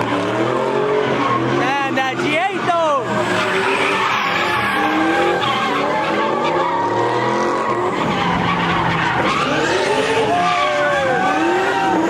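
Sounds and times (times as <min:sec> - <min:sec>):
car engine revving hard: 0:00.0 - 0:12.0
tires squealing: 0:00.0 - 0:12.0.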